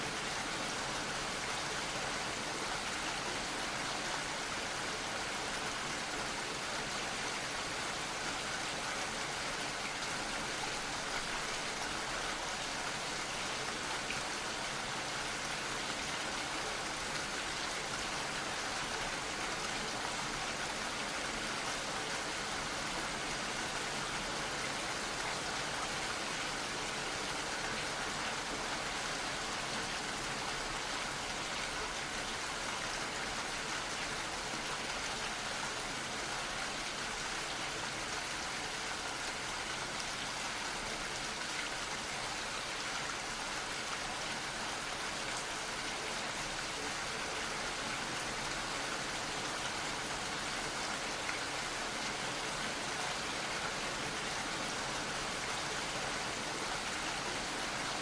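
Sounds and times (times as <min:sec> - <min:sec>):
gentle steady rain: 0:00.0 - 0:58.0.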